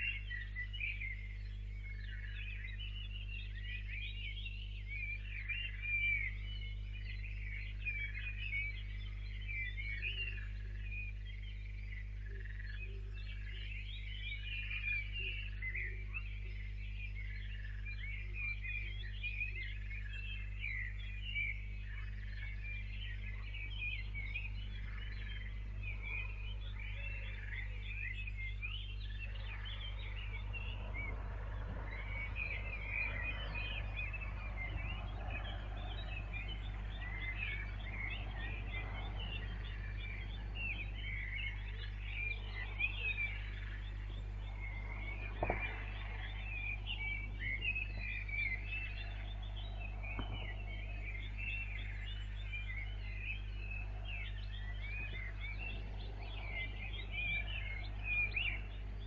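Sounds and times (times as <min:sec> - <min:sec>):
small birds chirping and singing: 0:00.0 - 0:59.0
steady low hum: 0:00.0 - 0:59.0.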